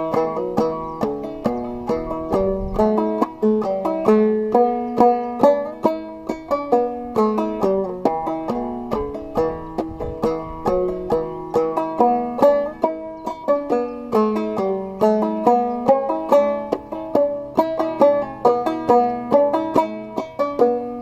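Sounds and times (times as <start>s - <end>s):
banjo march tune: 0.0s - 21.0s.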